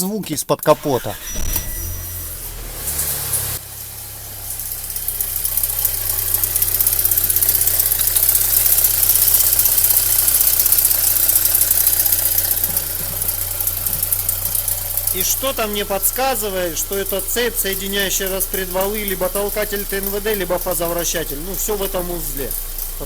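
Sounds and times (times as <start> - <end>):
metallic engine ticking: 0.5 - 23.0
car engine idling: 0.6 - 23.0.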